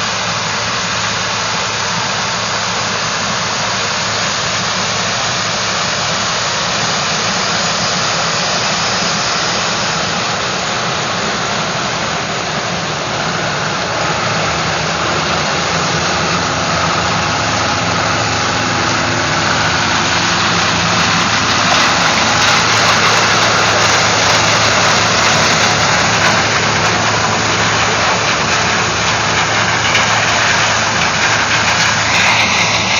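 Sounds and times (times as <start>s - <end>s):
diesel engine drone: 0.0s - 32.9s
rushing machine noise: 0.0s - 32.9s.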